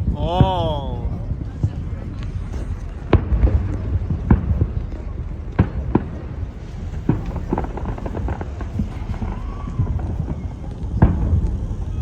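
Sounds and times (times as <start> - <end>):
crowd voices: 0.0 - 12.0.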